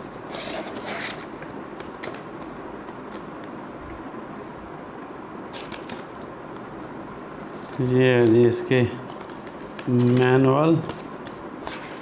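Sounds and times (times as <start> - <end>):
paper and cardboard rustling: 0.0 - 3.6, 5.5 - 12.0.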